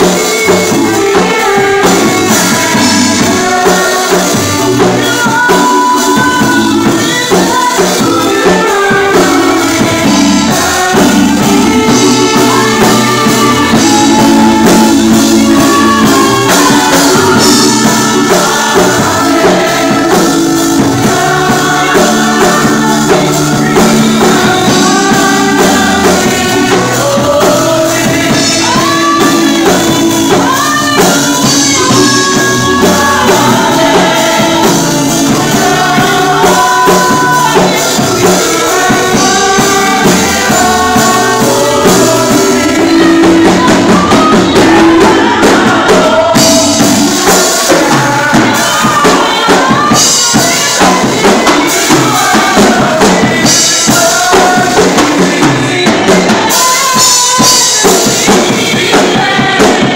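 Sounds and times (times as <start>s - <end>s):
gospel choir singing: 0.0s - 59.9s
instrumental backing: 0.0s - 59.9s.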